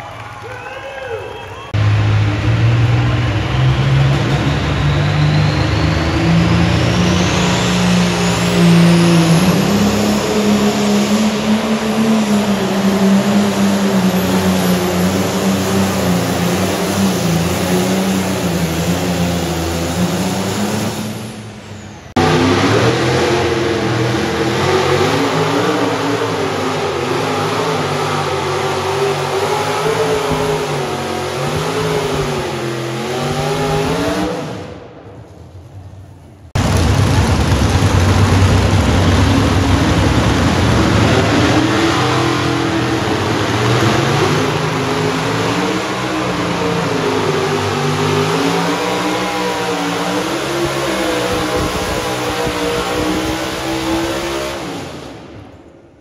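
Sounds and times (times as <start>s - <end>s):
second tractor engine: 0.0s - 56.0s
high engine whine: 1.2s - 56.0s
diesel tractor engine under load: 1.7s - 56.0s.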